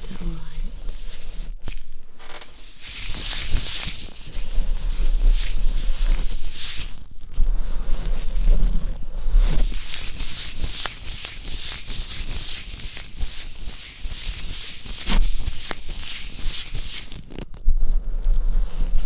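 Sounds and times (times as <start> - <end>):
fingertips rubbing on microphone: 0.0 - 19.0.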